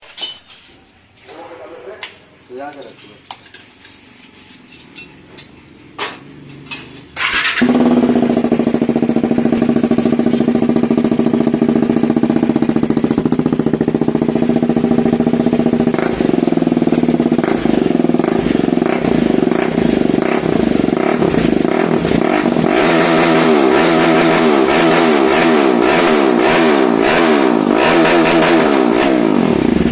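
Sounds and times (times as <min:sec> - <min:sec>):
motorcycle engine revving: 0:05.8 - 0:29.9.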